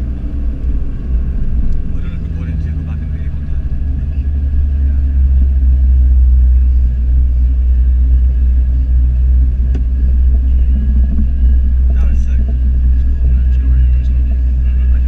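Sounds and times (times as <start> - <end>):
car engine rumble: 0.0 - 15.0
road noise inside car: 0.0 - 15.0.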